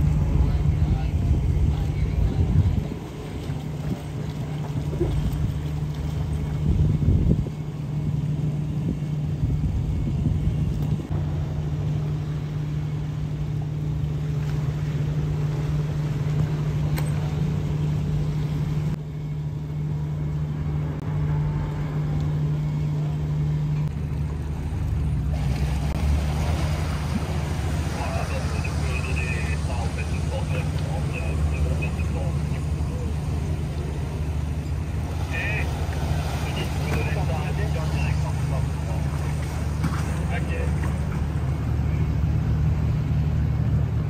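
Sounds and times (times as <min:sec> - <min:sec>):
boat diesel engines humming: 0:00.0 - 0:44.0.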